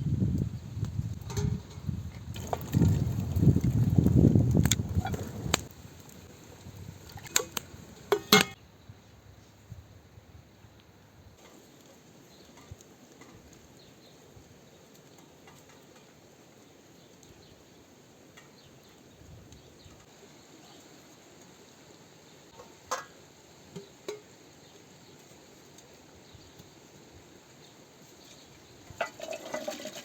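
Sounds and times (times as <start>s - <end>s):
faint outdoor background noise: 0.0s - 30.0s.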